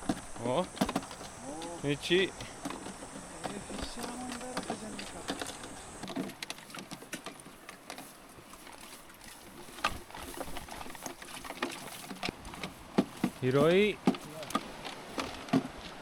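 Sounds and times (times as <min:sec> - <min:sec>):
undergrowth rustling: 0:00.0 - 0:16.0.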